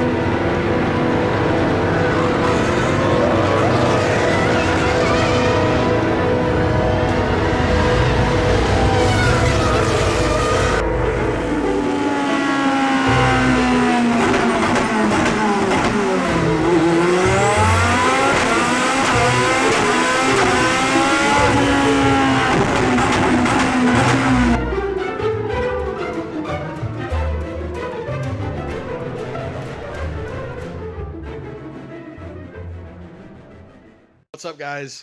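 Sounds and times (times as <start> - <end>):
race car engine revving: 0.0 - 30.7.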